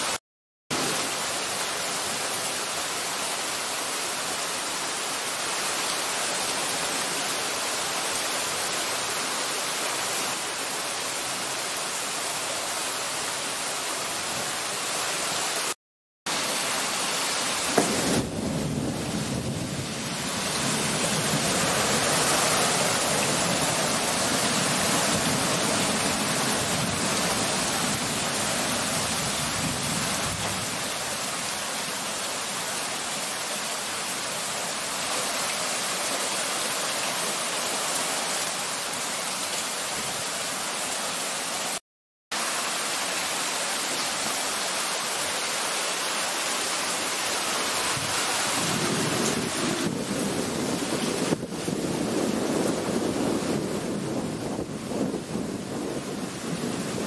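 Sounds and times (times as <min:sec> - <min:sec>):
torrential rain on street: 0:00.0 - 0:57.0.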